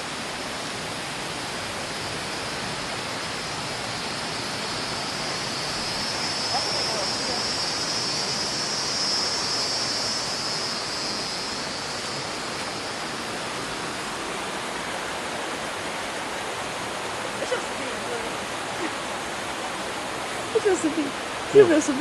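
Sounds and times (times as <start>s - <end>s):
high steady buzz: 0.0s - 22.0s
waterfall roaring: 0.0s - 22.0s.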